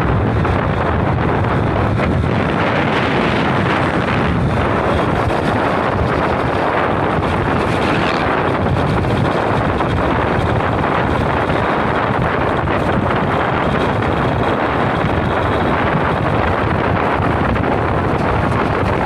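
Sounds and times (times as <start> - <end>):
motorcycle running: 0.0 - 19.0
wind rush on microphone: 0.0 - 19.0.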